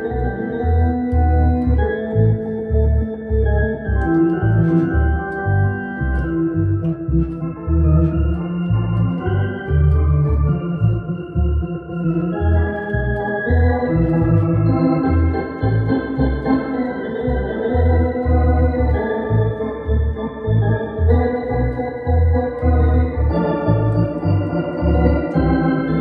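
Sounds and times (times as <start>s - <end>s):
organ playing up-tempo tune: 0.0s - 26.0s.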